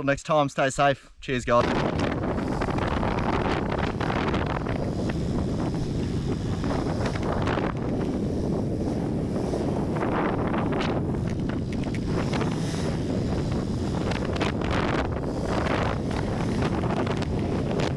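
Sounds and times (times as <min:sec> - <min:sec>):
wind buffeting microphone: 0:01.6 - 0:17.9.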